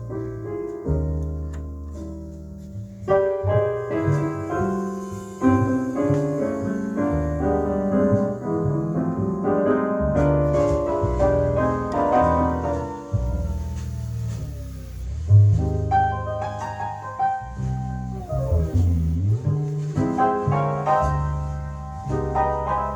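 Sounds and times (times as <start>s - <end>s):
piano music over loudspeakers: 0.0s - 22.9s.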